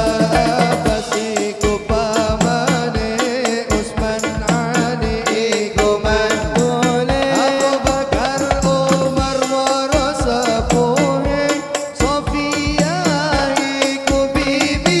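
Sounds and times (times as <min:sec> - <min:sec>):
hand drums playing quick beat: 0:00.0 - 0:15.0
man singing into a microphone: 0:00.0 - 0:15.0.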